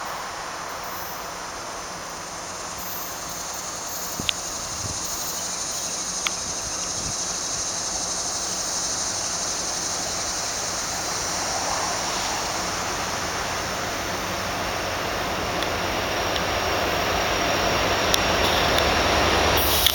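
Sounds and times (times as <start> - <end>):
freight train rolling: 0.0 - 19.9.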